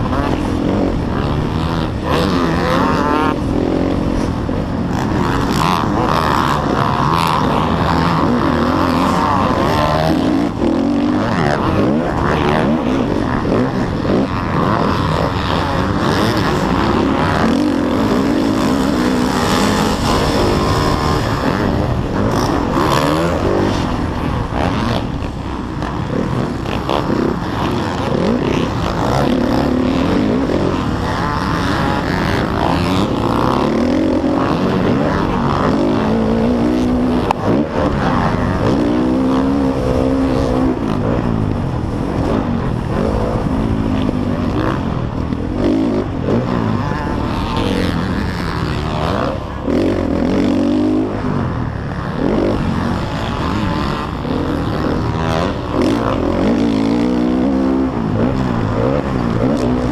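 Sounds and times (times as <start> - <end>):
motocross bike engine racing: 0.0 - 59.9
wind noise: 0.0 - 59.9.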